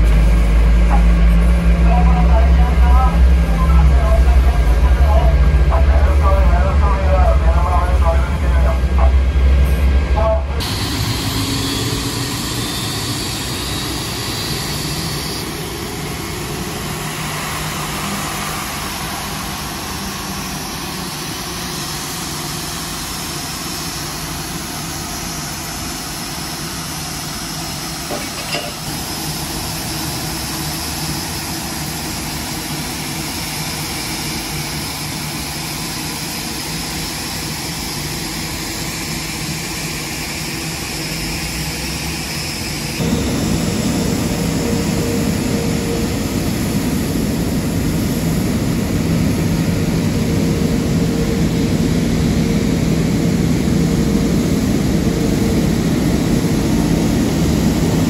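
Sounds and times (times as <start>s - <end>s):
jet engines idling: 0.0s - 58.0s.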